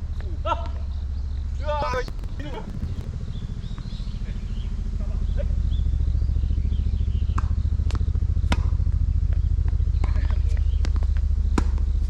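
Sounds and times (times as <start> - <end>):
vehicle engine rumbling: 1.5 - 12.0.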